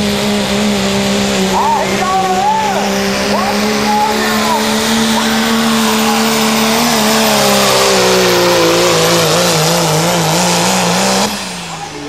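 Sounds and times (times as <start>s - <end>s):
diesel engine at full throttle: 0.0s - 12.0s.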